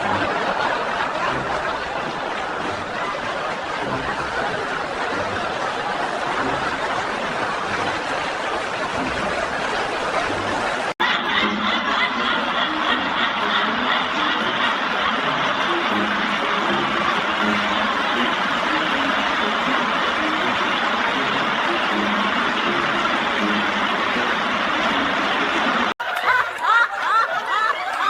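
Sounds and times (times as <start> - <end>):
group of people laughing: 0.0 - 28.0.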